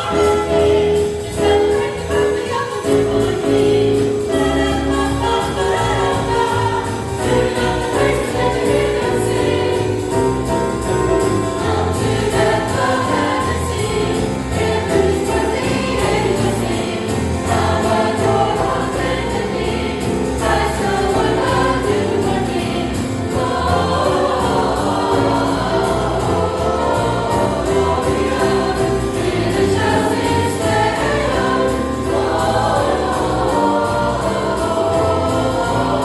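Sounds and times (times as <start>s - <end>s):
choir singing: 0.0s - 36.0s
instrumental accompaniment with bass: 0.0s - 36.0s.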